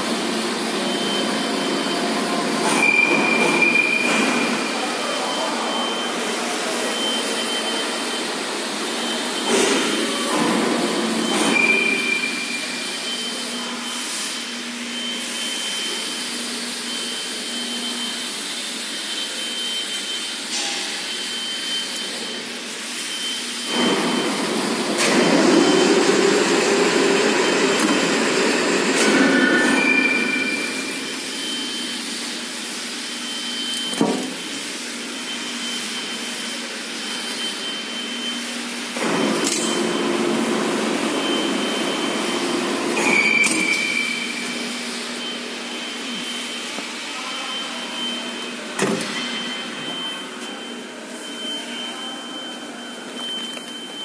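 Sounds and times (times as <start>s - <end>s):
high machine whine: 0.0s - 54.0s.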